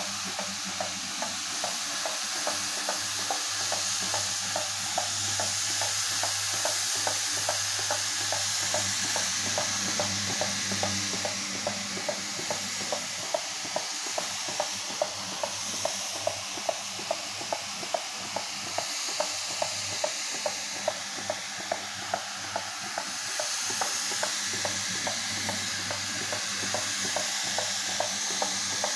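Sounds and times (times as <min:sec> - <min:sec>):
floor scrubber motor hum: 0:00.0 - 0:28.9.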